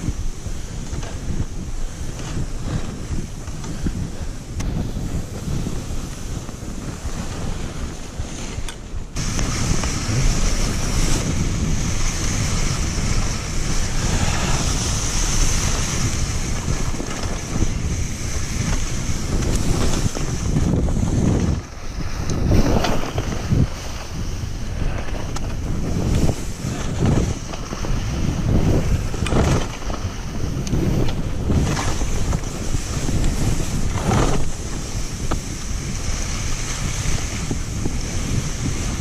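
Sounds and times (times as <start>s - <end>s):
skis hissing over snow: 0.0s - 39.0s
wind buffeting microphone: 0.0s - 39.0s.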